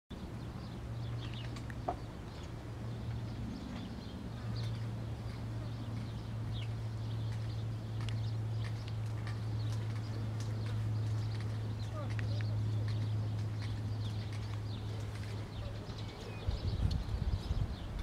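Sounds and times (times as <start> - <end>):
bird chirps: 0.5 - 17.9.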